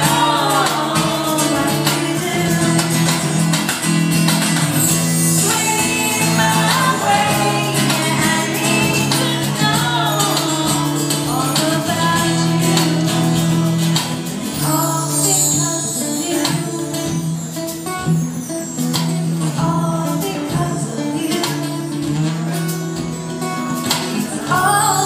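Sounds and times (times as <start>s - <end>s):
woman singing into microphone: 0.0s - 3.8s, 4.9s - 17.7s, 19.4s - 22.6s, 23.8s - 25.0s
strummed acoustic guitar: 0.0s - 25.0s.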